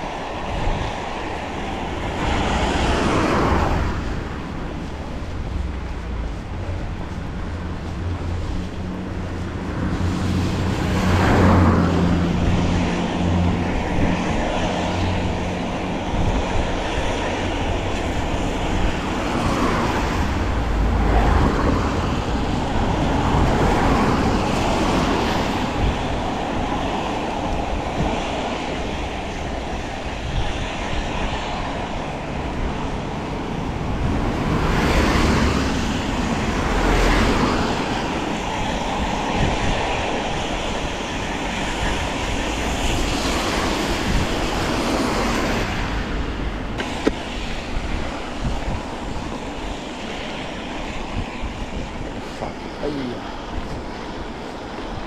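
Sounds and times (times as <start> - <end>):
low engine hum: 0.0 - 55.0
vehicles passing on wet road: 0.0 - 55.0.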